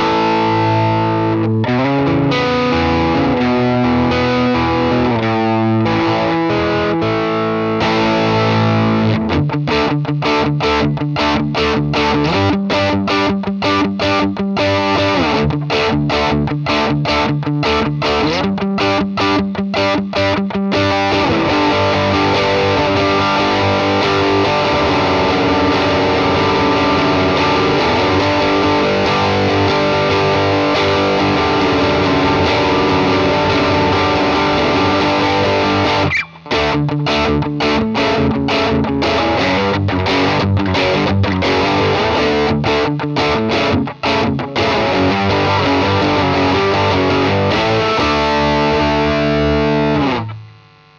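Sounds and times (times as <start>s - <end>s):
distorted electric guitar chords: 0.0s - 50.9s.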